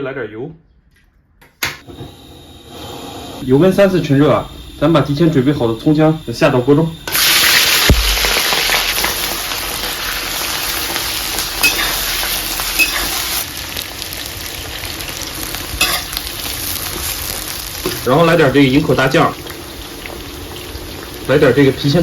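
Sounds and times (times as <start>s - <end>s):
food sizzling in hot oil: 2.1s - 22.0s.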